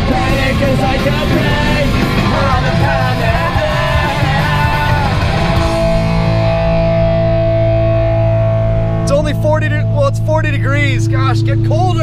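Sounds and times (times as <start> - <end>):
rock music with guitar and singing: 0.0 - 11.7.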